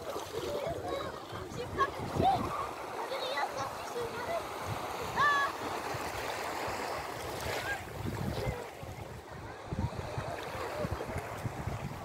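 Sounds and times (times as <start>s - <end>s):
small waves lapping: 0.0s - 12.0s
wind gusting over microphone: 0.0s - 12.0s.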